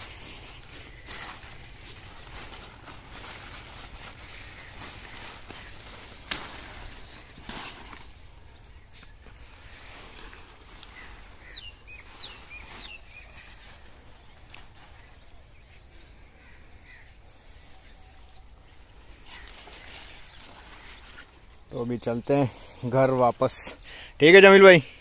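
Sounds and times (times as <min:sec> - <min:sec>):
bird chirping: 0:00.0 - 0:24.3.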